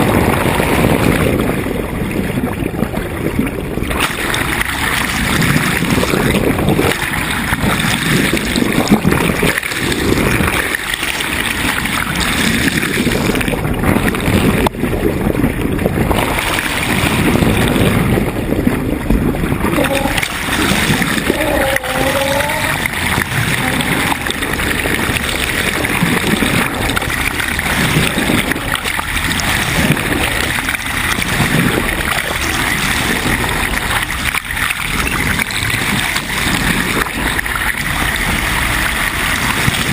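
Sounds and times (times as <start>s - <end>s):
water rushing along boat hull: 0.0s - 39.9s.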